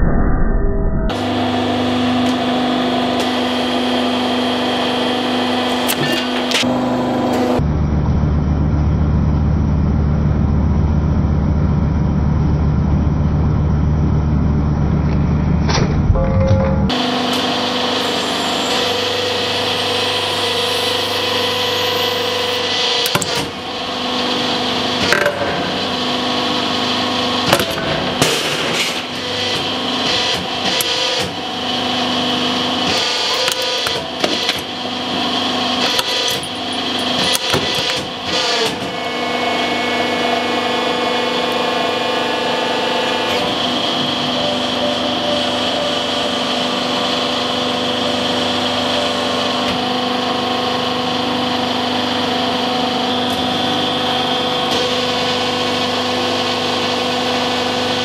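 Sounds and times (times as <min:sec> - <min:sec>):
hydraulic pump motor humming: 0:01.1 - 0:07.8, 0:13.6 - 0:28.2, 0:29.0 - 0:58.0.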